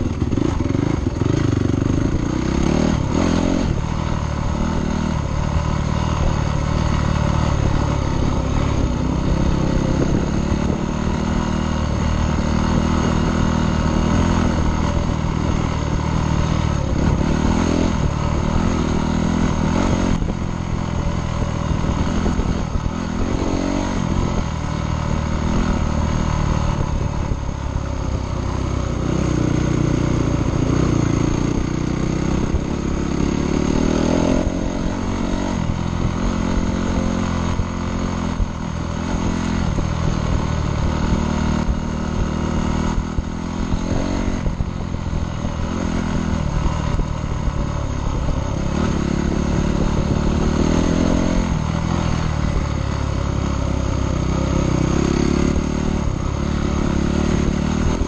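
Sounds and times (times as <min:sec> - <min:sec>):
dirt bike engine revving: 0:00.0 - 0:28.0, 0:28.6 - 0:58.0.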